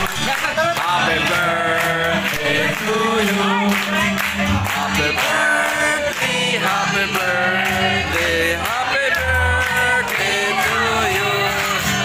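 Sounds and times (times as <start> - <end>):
song with singing: 0.0 - 12.0.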